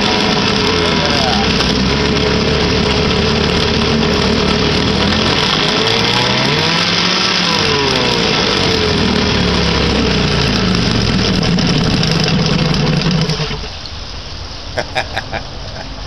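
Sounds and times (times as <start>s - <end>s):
outboard motor revving: 0.0s - 13.9s.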